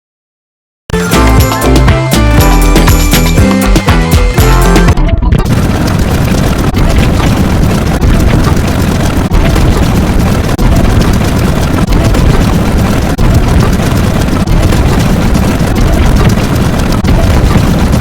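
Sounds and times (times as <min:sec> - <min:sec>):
distorted rumbling: 0:01.0 - 0:18.0.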